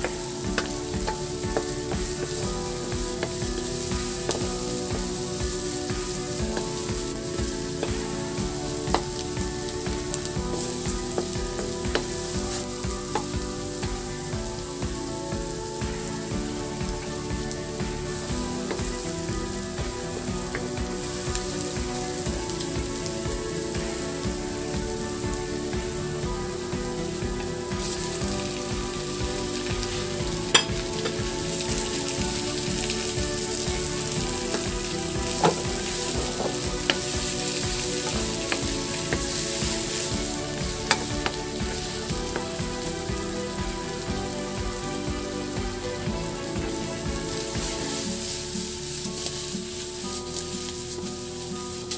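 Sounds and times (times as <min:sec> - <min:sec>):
garlic and onion sizzling in oil: 0:00.0 - 0:51.9
wooden spatula scraping wok: 0:00.0 - 0:51.9.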